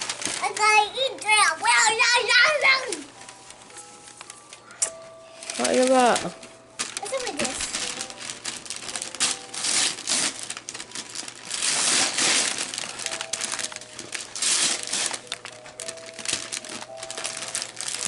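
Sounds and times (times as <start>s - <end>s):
wrapping paper crinkling: 0.0s - 18.0s.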